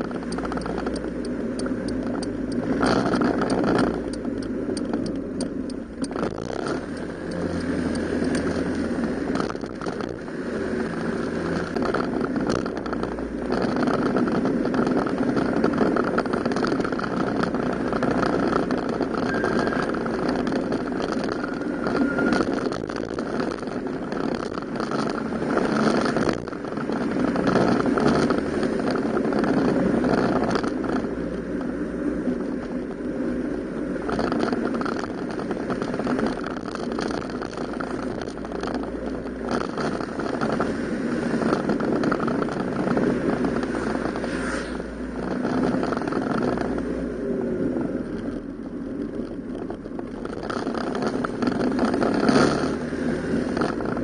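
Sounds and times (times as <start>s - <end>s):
road noise: 0.0s - 54.0s
scooter engine running: 0.0s - 54.0s
wind: 0.0s - 54.0s.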